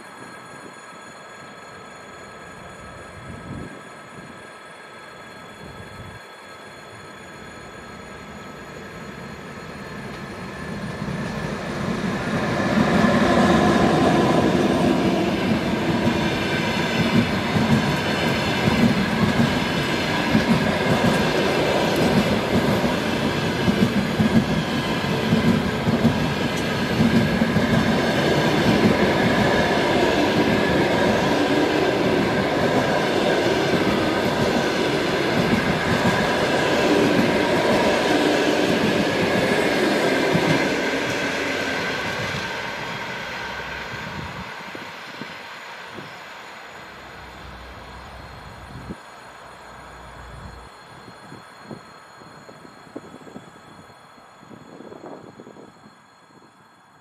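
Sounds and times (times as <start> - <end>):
electric locomotive approaching: 0.0 - 57.0
train cars rumbling past: 5.2 - 56.9.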